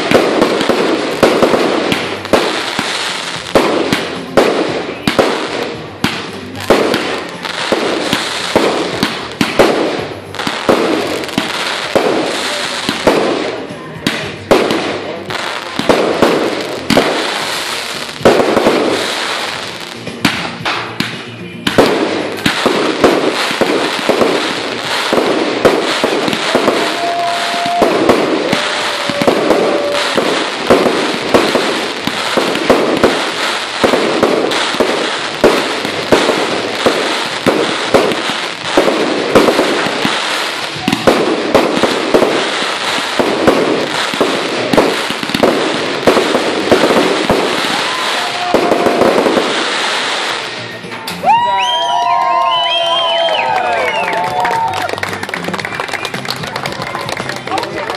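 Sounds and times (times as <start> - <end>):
fireworks bursting: 0.0 - 57.9.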